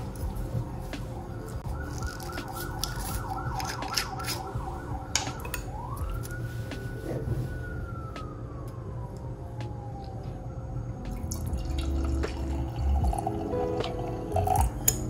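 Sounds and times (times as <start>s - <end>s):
emergency vehicle siren: 0.0s - 14.6s.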